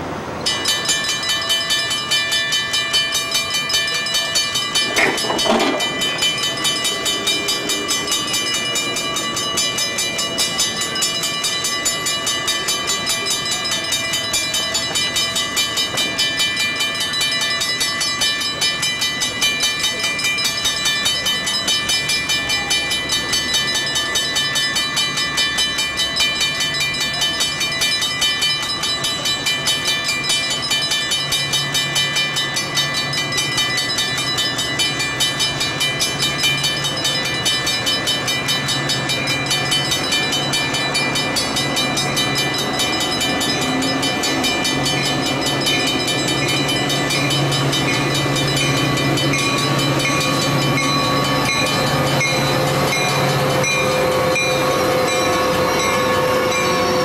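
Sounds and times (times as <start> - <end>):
crossing warning bell ringing: 0.0 - 57.0.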